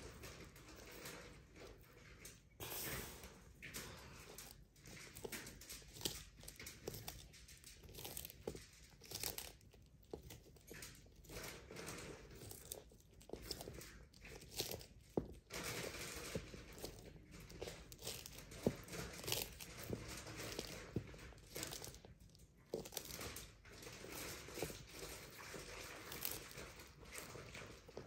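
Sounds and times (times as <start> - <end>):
tortoise crunching food: 0.0 - 28.0.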